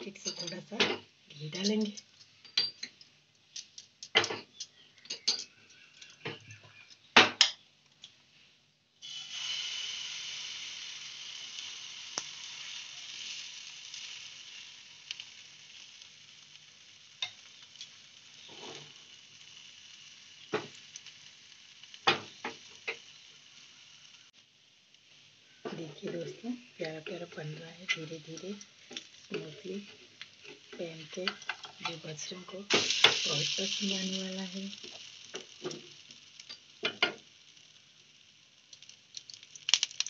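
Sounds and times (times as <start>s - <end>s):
batter sizzling in hot fat: 0.0s - 40.0s.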